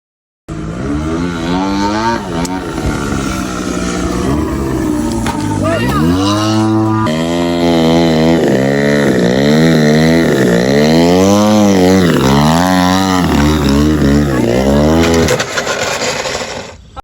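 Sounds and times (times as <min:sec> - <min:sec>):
model airplane engine revving: 0:00.5 - 0:16.8.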